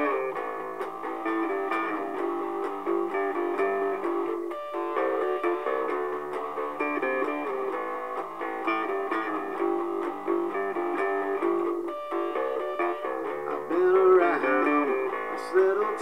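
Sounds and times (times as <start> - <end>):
guitar playing instrumental: 0.0 - 16.0.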